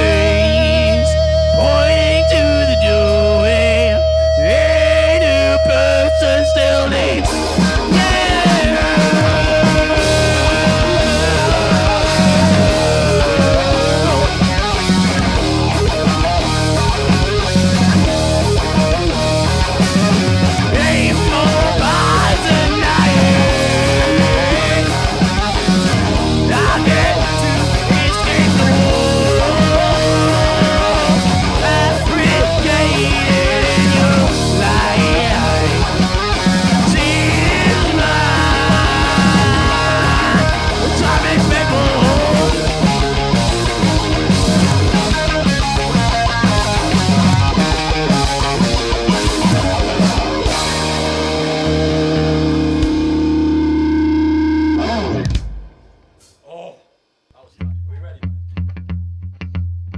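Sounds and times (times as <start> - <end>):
distorted rock band playing: 0.0 - 56.5.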